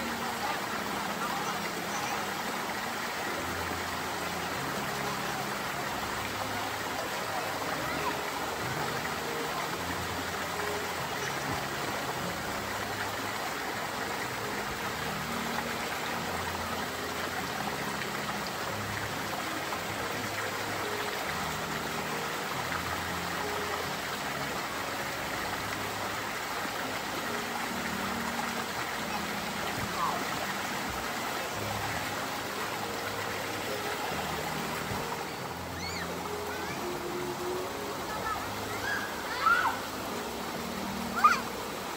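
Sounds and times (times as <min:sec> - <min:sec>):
waterfall rushing over rock: 0:00.0 - 0:41.9.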